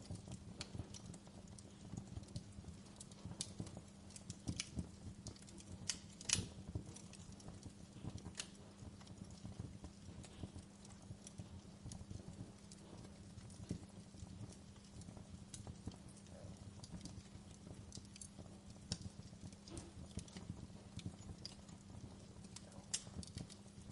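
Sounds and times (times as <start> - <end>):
low steady rumble: 0.0 - 23.9
wood fire crackling and popping: 0.0 - 23.9.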